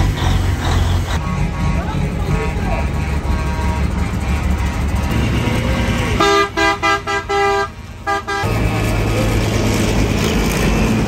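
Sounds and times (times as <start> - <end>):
truck engines rumbling: 0.0 - 11.0.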